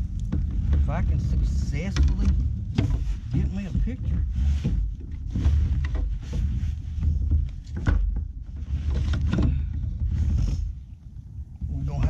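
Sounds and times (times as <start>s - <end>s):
handling knocks and rustles: 0.0s - 12.0s
wind buffeting microphone: 0.0s - 12.0s.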